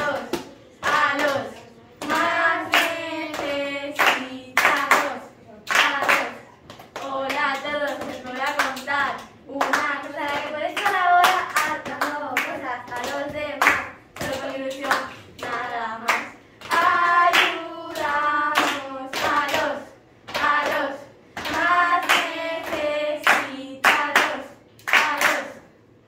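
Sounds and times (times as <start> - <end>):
girls singing in unison: 0.0 - 25.7
hands clapping in rhythm: 0.0 - 25.8.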